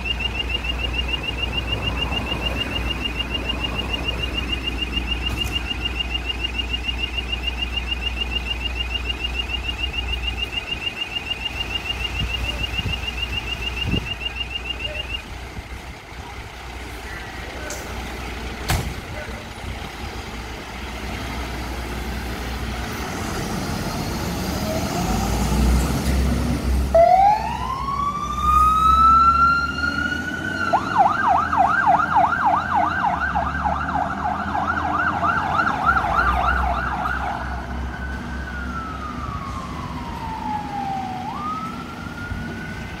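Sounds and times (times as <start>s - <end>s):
diesel engine pulling away: 0.0s - 43.0s
fire engine siren wailing and yelping: 0.0s - 43.0s.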